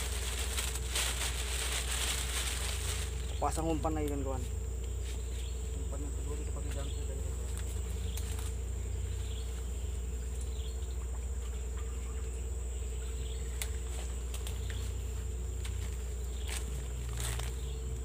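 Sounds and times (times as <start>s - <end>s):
insects droning: 0.0s - 18.0s
low steady hum: 0.0s - 18.0s.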